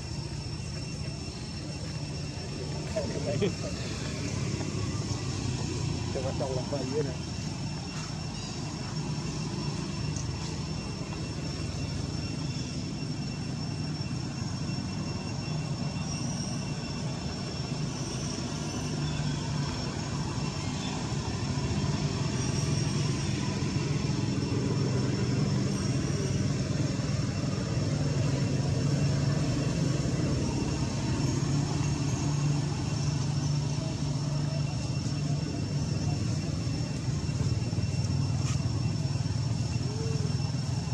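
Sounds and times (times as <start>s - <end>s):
faint high whine: 0.0s - 40.9s
vehicle engine rumbling: 0.0s - 40.9s.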